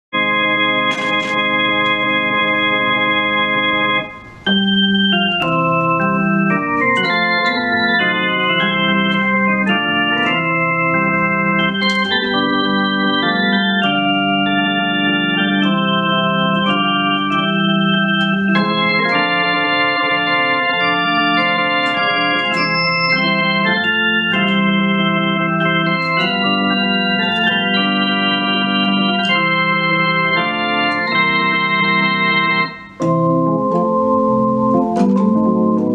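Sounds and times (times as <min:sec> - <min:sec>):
organ hymn on keyboard: 0:00.0 - 0:35.9.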